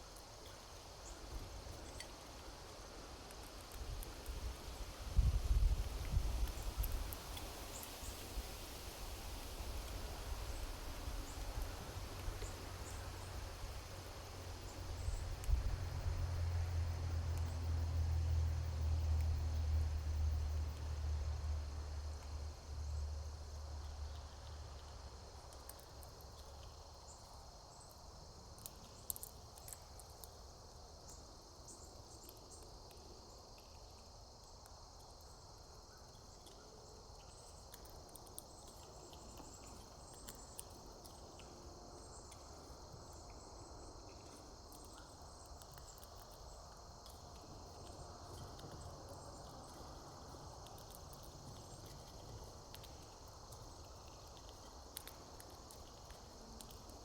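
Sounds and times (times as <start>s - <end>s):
insects chirring: 0.0s - 57.0s
small clicks and ticks: 0.1s - 8.2s, 11.6s - 57.0s.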